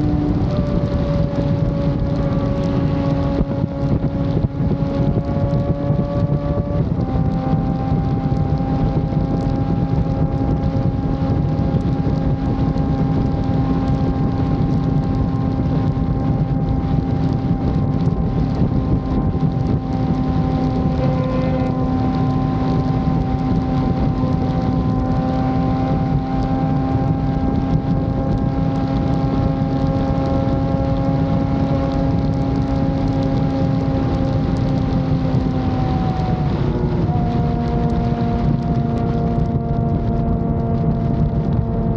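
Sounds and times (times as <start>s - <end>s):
motorcycle engine cruising: 0.0s - 41.9s
wind noise on microphone: 0.0s - 41.9s.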